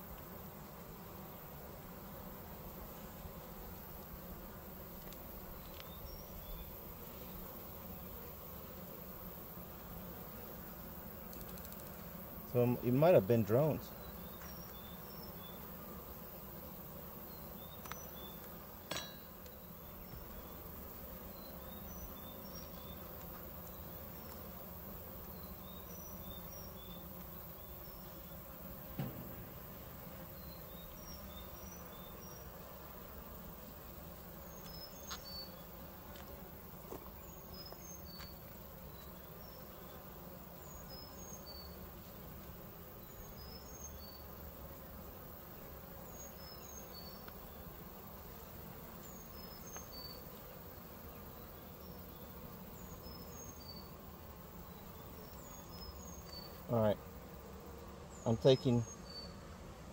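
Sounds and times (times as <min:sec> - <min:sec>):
honeybees buzzing: 0:00.0 - 0:59.9.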